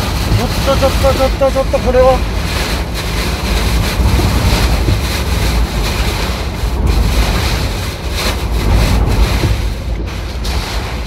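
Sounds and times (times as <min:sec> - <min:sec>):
heavy driving rain: 0:00.0 - 0:11.0
wind rumble on microphone: 0:00.0 - 0:11.0.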